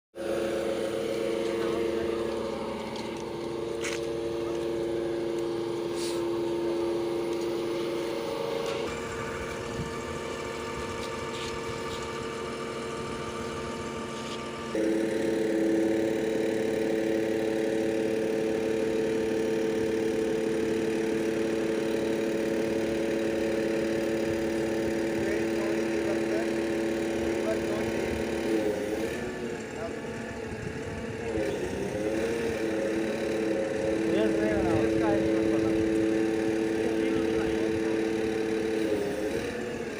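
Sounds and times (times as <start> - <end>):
concrete pump engine running: 0.2 - 39.9.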